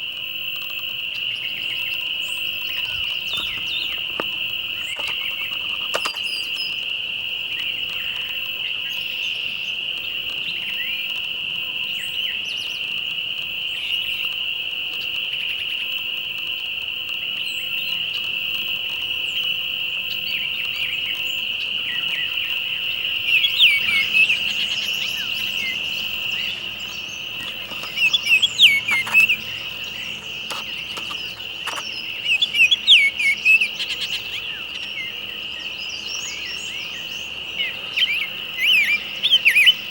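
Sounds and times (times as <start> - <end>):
birds chirping: 0.0 - 13.0, 17.4 - 39.9
insects droning: 0.0 - 39.9.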